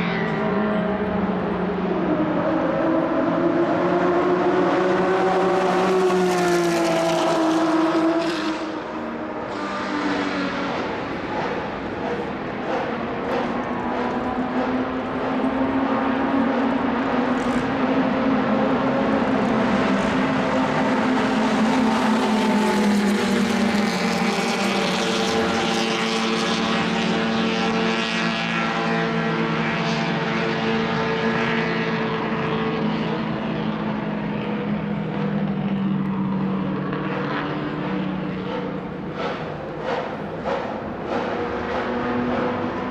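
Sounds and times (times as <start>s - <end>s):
racing car engine running: 0.2s - 42.9s.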